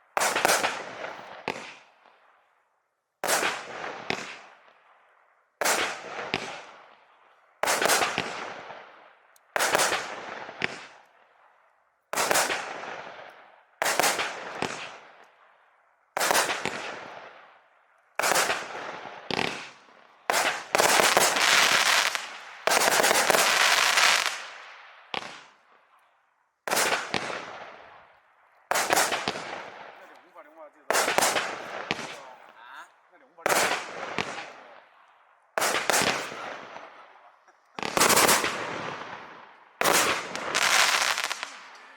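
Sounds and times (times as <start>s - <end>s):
fireworks bangs with crackle: 0.0s - 1.9s, 3.2s - 4.8s, 5.6s - 7.0s, 7.6s - 11.0s, 12.1s - 15.2s, 16.2s - 17.6s, 18.2s - 25.7s, 26.7s - 28.1s, 28.7s - 34.9s, 35.6s - 41.9s.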